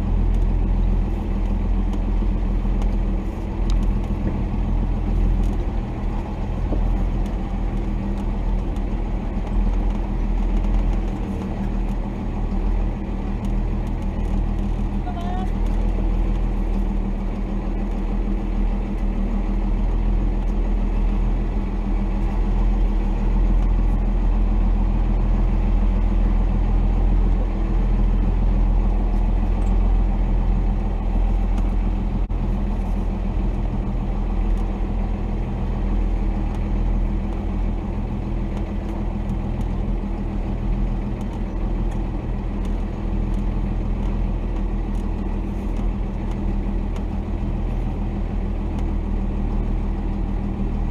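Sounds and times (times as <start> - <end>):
diesel engine running at low revs: 0.0 - 50.9.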